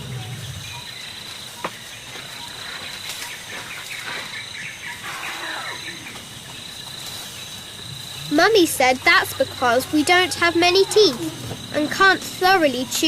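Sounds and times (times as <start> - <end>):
birds chirping: 0.0 - 13.0
high insect trill: 0.0 - 13.0.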